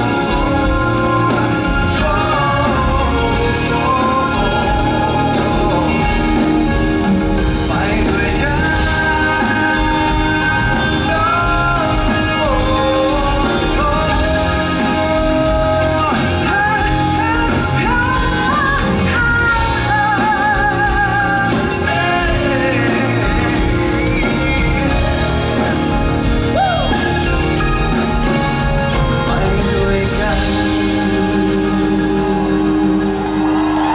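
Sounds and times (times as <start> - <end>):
man singing into microphone: 0.0 - 27.4, 28.9 - 33.3
guitar band playing: 0.0 - 33.9.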